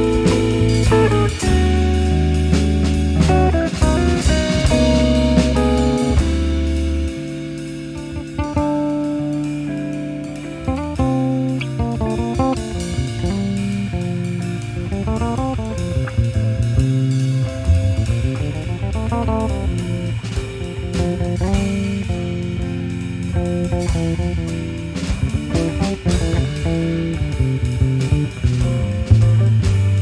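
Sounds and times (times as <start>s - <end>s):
bass line: 0.0s - 30.0s
drum kit: 0.0s - 30.0s
electric guitar lines: 0.0s - 30.0s.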